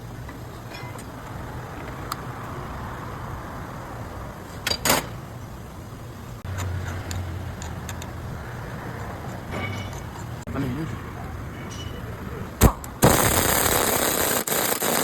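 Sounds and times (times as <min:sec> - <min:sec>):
car low running hum: 0:00.0 - 0:13.0.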